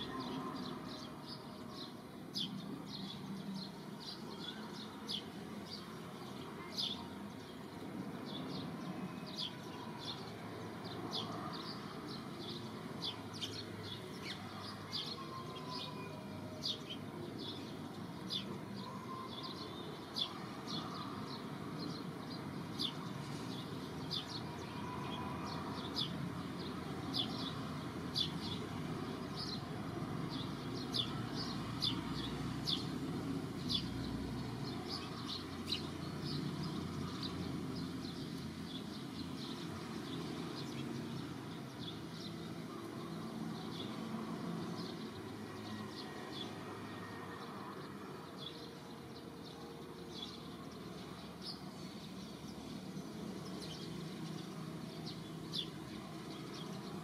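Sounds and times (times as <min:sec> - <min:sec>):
small birds chirping: 0:00.0 - 0:46.9, 0:47.7 - 0:57.0.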